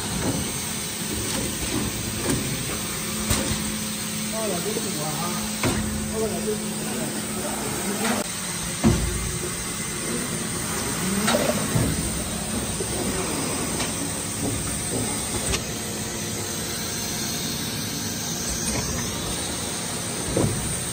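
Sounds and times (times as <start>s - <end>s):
machine hiss and hum: 0.0s - 20.9s.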